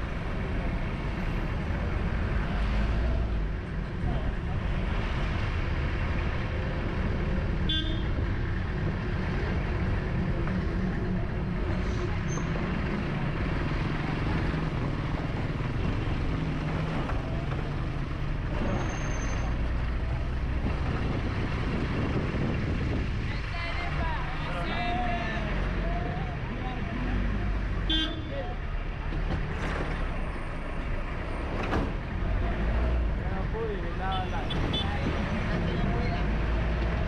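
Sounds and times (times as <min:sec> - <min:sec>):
car and lorry engines running: 0:00.0 - 0:37.0.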